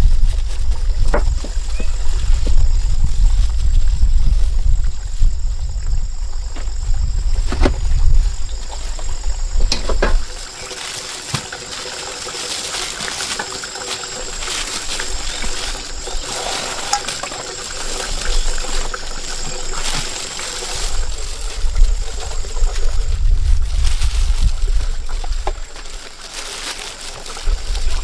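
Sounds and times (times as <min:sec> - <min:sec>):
stream water trickling and splashing: 0:00.2 - 0:28.0.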